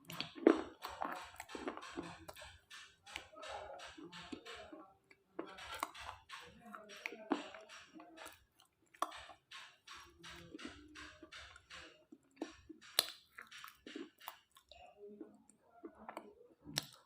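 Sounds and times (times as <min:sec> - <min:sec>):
chewing crunchy pieces: 0:00.0 - 0:17.0.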